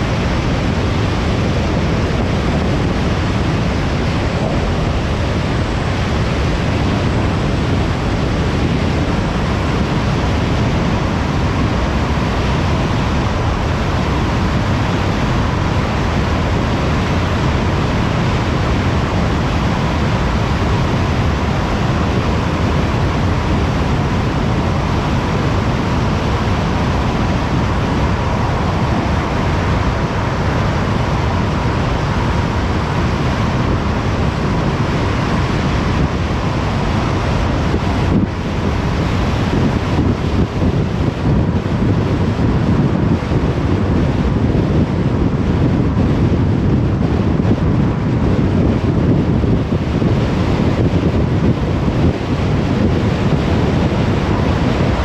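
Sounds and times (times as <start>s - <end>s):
car tyre and wind noise: 0.0s - 55.0s
faint steady whine: 0.0s - 55.0s.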